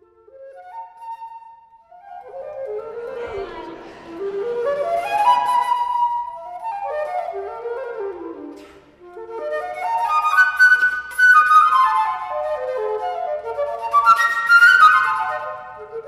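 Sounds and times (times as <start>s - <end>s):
flute music: 0.0s - 16.0s.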